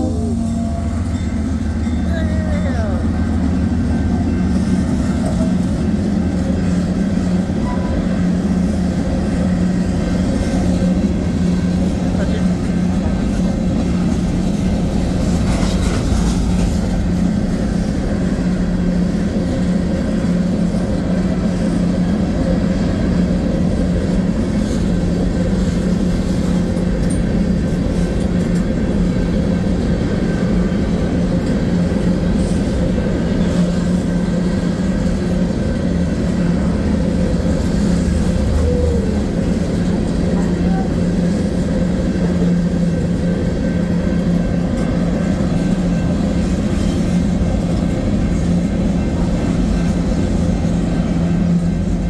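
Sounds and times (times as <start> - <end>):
freight train wheels rumbling on rail: 0.0 - 52.0.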